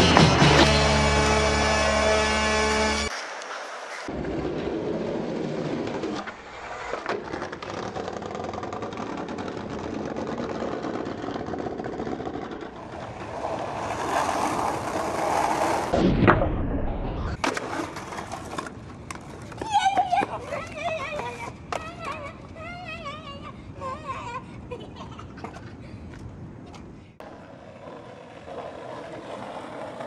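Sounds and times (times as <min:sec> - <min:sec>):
skateboard wheels rolling on pavement: 0:00.0 - 0:30.0.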